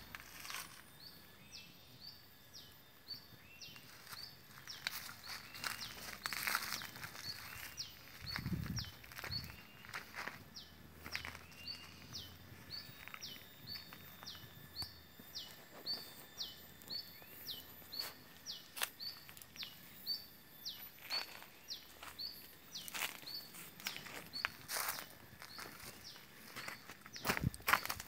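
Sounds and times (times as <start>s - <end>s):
footsteps on dry leaves: 0.0s - 1.2s, 3.7s - 19.9s, 20.6s - 28.0s.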